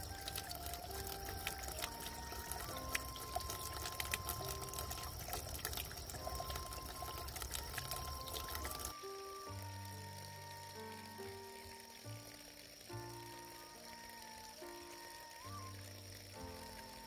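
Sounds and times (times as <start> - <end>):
slow background music: 0.0 - 17.0
water trickling and splashing: 0.0 - 17.0.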